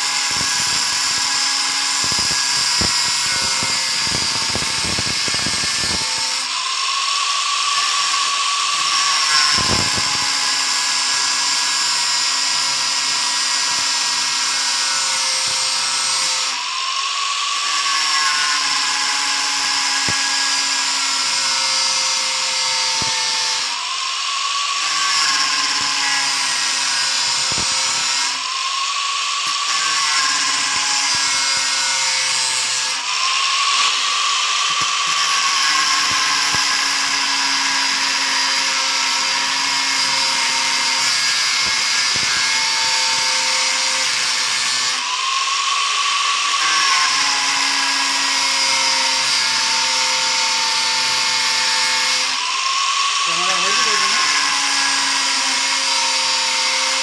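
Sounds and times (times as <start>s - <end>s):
angle grinder cutting wire: 0.0s - 57.0s.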